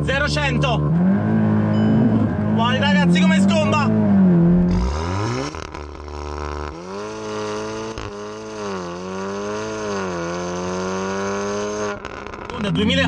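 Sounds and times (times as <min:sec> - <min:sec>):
car exhaust while driving hard: 0:00.0 - 0:13.0.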